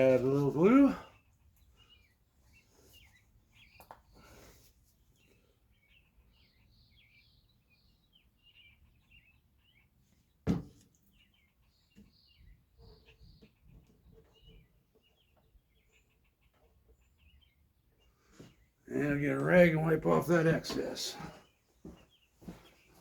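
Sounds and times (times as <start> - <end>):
small birds chirping faintly: 0.0 - 23.0.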